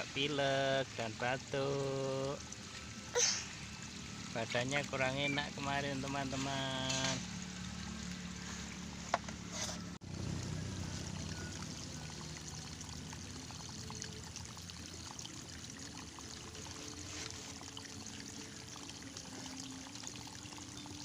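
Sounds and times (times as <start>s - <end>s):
water running: 0.0s - 21.0s.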